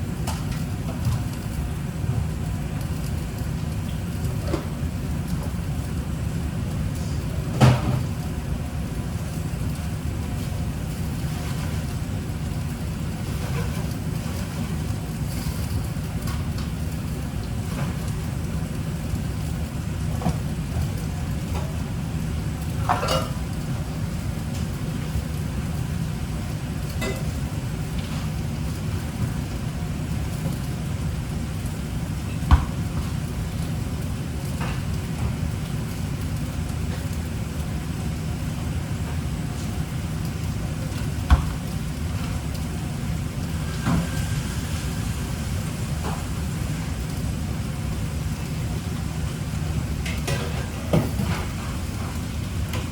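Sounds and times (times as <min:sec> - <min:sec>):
motor or fan rumble: 0:00.0 - 0:52.9.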